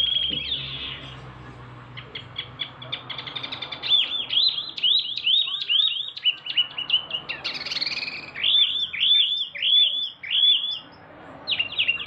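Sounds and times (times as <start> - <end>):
bird singing chirps: 0.0 - 12.0.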